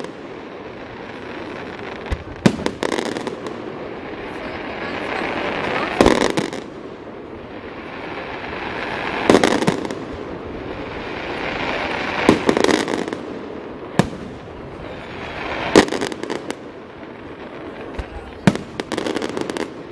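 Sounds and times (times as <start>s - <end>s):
firework cracks: 0.0s - 19.9s
loud firework bangs: 0.0s - 19.9s.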